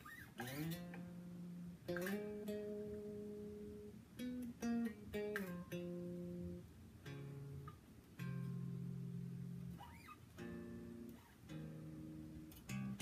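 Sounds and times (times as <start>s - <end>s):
electric bass plucked notes: 0.4s - 13.0s.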